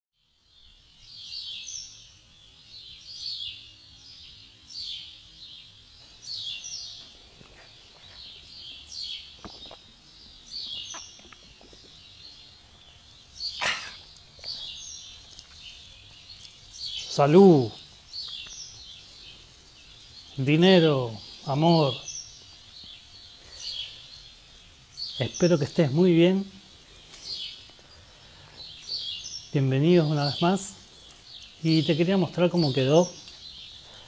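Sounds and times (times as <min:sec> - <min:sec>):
bird chirping: 0:00.2 - 0:34.0.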